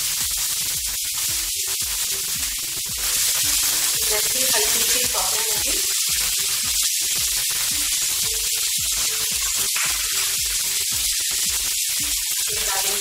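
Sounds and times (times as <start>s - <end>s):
faint background music: 0.0s - 13.0s
vegetables sizzling in hot oil: 0.0s - 13.0s.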